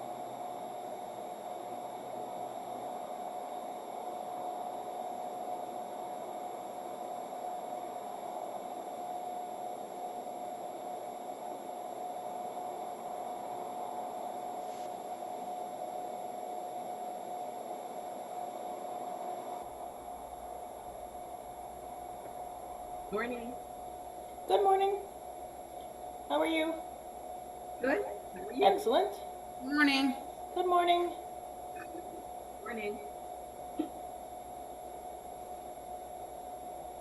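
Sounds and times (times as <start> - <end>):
mid-pitched hum: 0.0 - 37.0
static hiss: 0.0 - 37.0.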